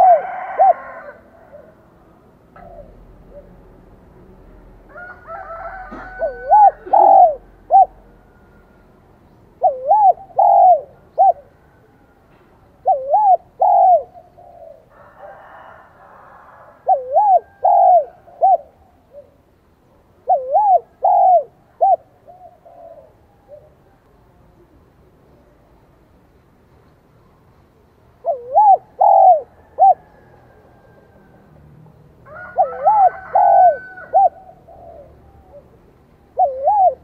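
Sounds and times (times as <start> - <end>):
dove cooing: 0.0 - 3.8, 5.0 - 8.9, 9.6 - 12.2, 12.8 - 24.8, 28.2 - 31.6, 32.3 - 37.0.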